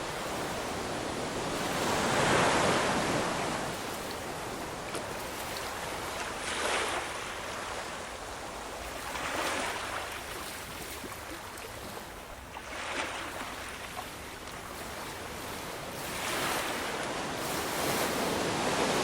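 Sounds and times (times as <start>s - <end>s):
ocean waves breaking on shore: 0.0s - 19.0s.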